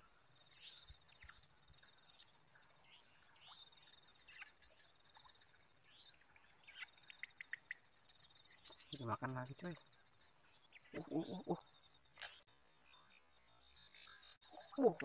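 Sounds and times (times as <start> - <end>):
high-pitched insect trill: 0.0 - 15.0
short chirping calls: 0.4 - 15.0.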